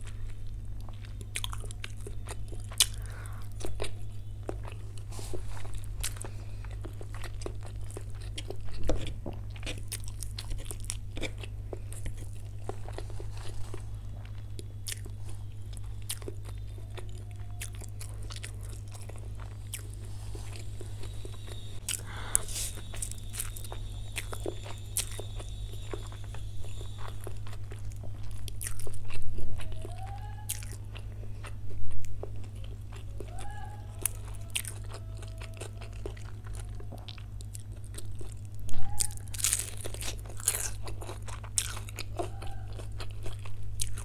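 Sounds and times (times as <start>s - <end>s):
person chewing and eating: 0.0s - 44.0s
steady low hum: 0.0s - 44.0s.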